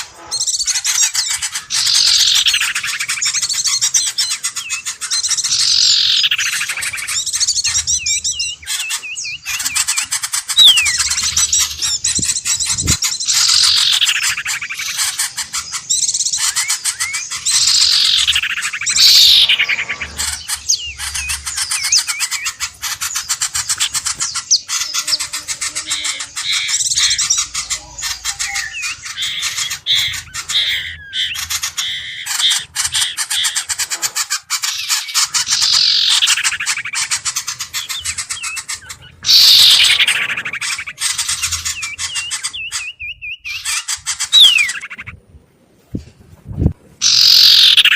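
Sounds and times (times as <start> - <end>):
downward-sliding bird calls: 0.0 - 45.2, 46.4 - 47.9
small birds chirping and trilling: 0.0 - 47.9.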